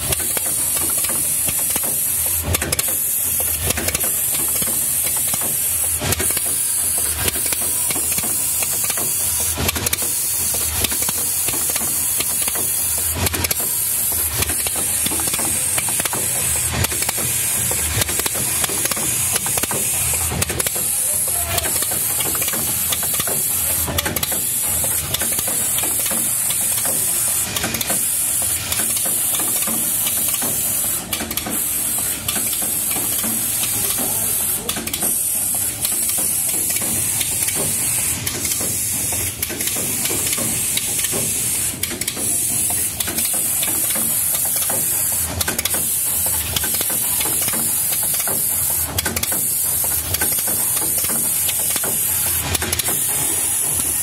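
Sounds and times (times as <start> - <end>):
machine high hiss: 0.0 - 54.0
sharp mechanical clicks: 0.0 - 54.0.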